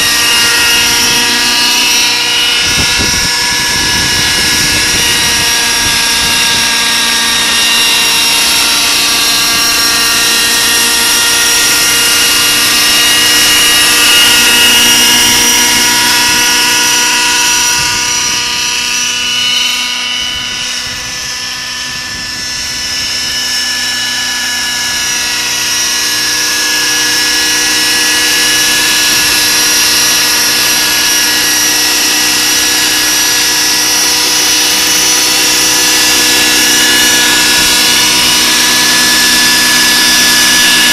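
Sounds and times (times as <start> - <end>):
model helicopter whine: 0.0 - 40.9.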